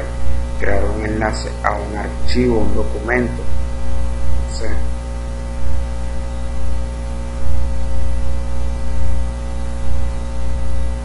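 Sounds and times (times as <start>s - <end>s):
electrical hum: 0.0s - 11.0s
recording hiss: 0.0s - 11.0s.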